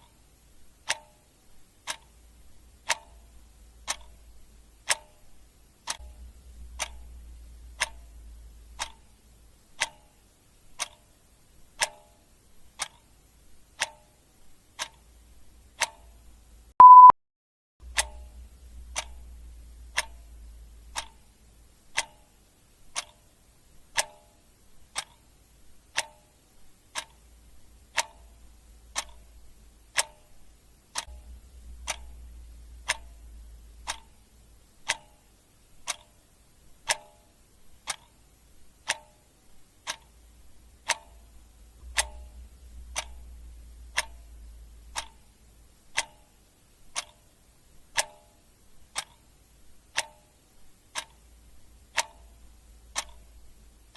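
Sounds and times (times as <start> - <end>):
clock ticking: 0.0 - 17.1, 17.8 - 53.9
faint low rumble: 0.1 - 11.8, 17.8 - 23.9, 24.7 - 48.0, 50.5 - 53.9.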